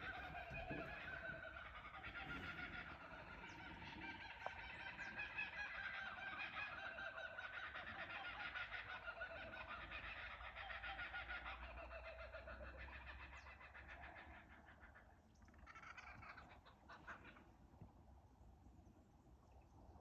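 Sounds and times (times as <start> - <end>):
kookaburras laughing: 0.0 - 17.4.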